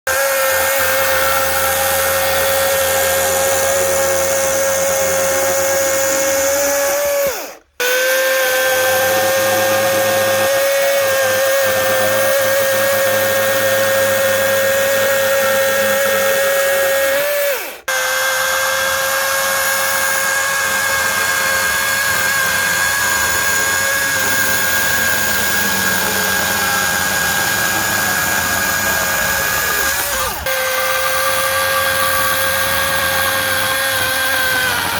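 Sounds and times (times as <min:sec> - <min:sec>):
power tool motor whining: 0:00.1 - 0:34.9.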